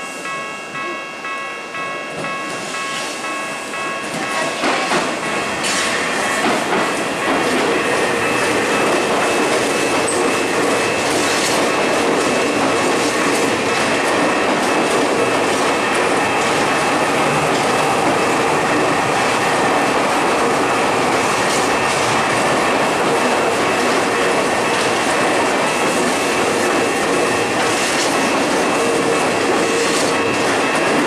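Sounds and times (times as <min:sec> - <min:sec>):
level-crossing alarm ringing: 0:00.0 - 0:31.0
train wheels rumbling and clattering: 0:02.1 - 0:31.0.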